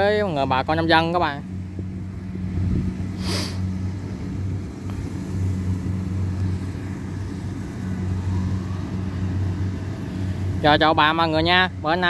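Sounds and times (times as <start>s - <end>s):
distant diesel engine drone: 0.0s - 12.0s.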